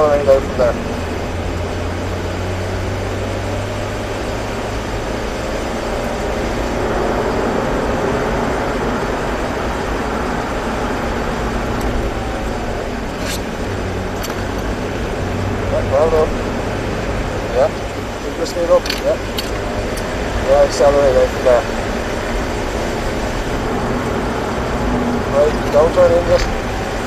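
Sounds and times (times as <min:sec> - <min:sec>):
car engine accelerating: 0:00.0 - 0:27.0
tyre and road noise on wet track: 0:00.0 - 0:27.0.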